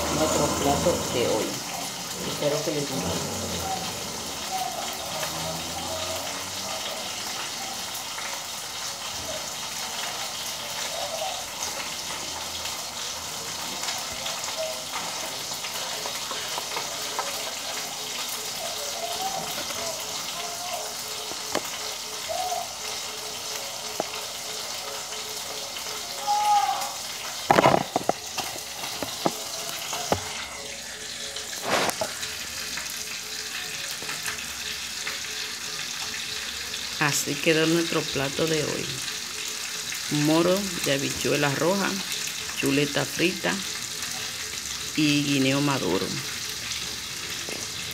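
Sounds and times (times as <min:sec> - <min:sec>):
meat sizzling in oil: 0:00.0 - 0:47.9.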